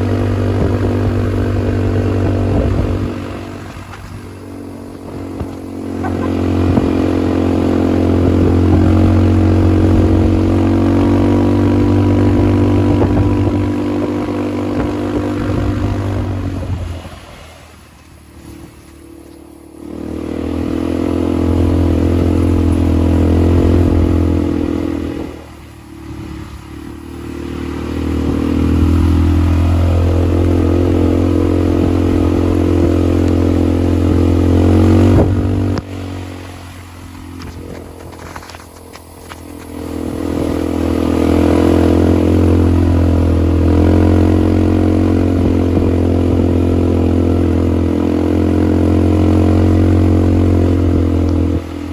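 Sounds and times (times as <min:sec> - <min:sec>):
atv engine running: 0:00.0 - 0:51.9.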